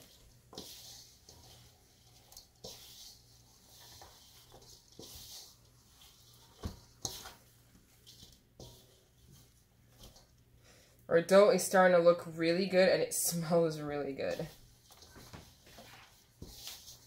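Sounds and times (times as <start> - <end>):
hands kneading dough in a bowl: 0.0 - 10.6, 11.3 - 17.0.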